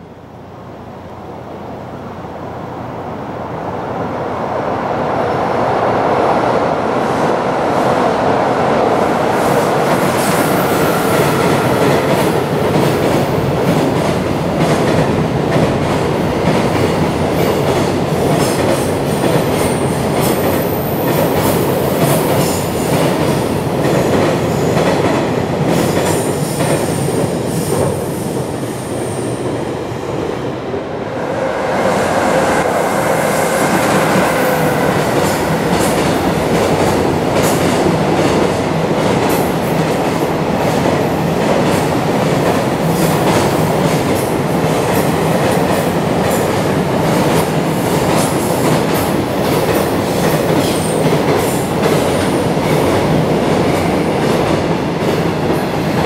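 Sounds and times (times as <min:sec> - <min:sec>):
freight train wheel and rail noise: 0:00.0 - 0:56.0.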